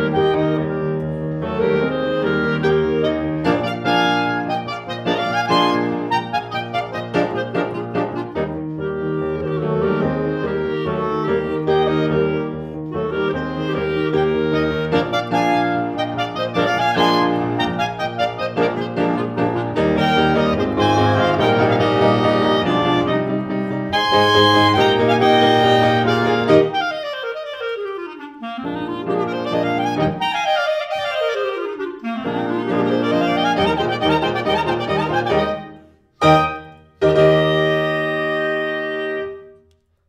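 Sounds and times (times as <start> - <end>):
clarinets playing: 0.0 - 39.8
piano playing: 0.0 - 39.8.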